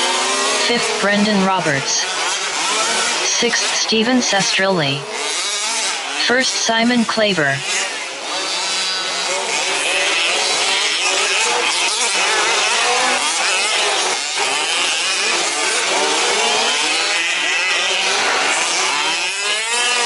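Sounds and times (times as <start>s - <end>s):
small two-stroke engines racing: 0.0s - 20.0s.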